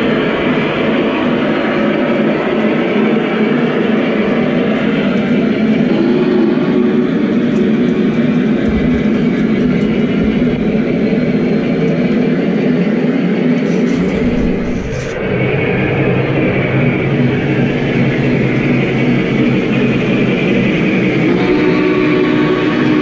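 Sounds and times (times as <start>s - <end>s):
model train wheels rumbling on rail: 0.0s - 23.0s.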